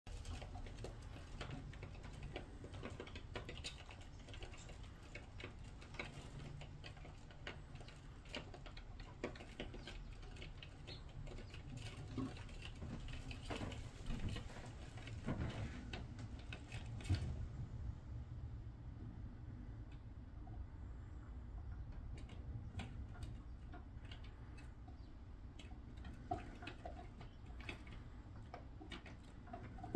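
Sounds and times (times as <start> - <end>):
birds tapping at window: 0.1 - 17.4, 21.4 - 29.9
low steady hum: 0.1 - 29.9.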